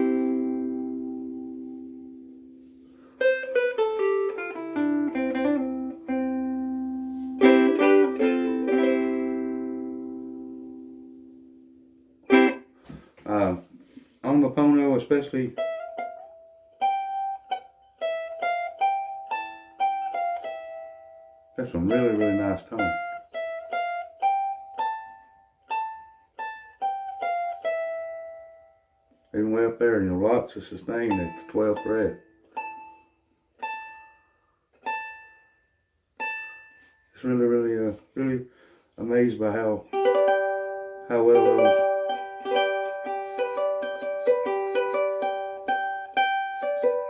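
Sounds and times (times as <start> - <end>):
ukulele playing: 0.0 - 29.5, 30.8 - 47.0.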